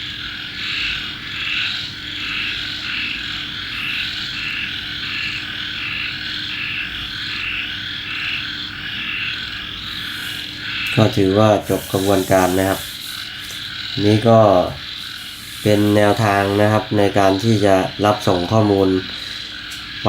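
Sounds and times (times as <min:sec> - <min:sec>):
rhythmic animal chorus: 0:00.0 - 0:20.0.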